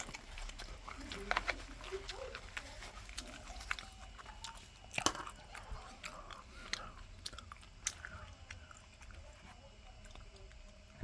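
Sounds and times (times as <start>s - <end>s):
chewing crunchy fried food: 0.0s - 11.0s.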